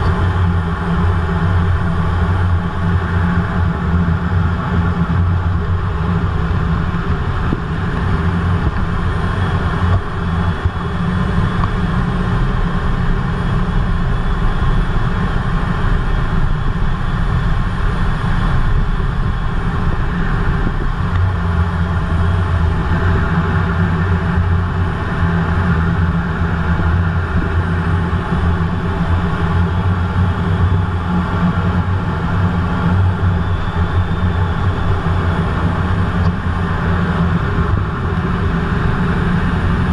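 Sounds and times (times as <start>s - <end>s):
deep drone: 0.0s - 39.9s
jet engines roaring: 0.0s - 39.9s.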